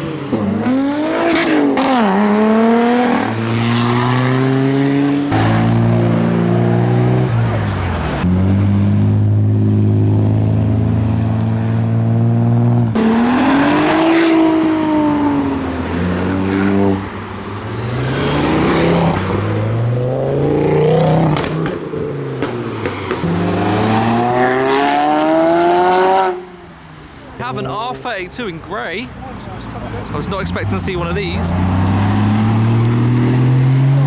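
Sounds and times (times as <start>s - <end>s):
car engine accelerating: 0.0s - 28.9s, 29.6s - 34.0s
car engines revving: 0.0s - 34.0s
cars passing: 0.0s - 34.0s.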